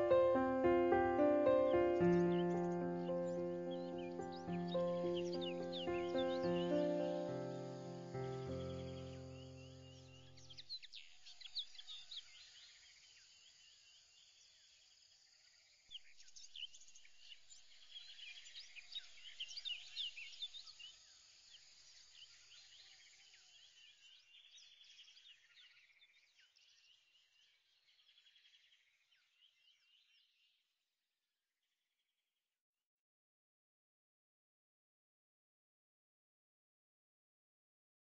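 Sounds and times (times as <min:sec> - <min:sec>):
faint birds chirping and trilling: 0:00.0 - 0:30.7.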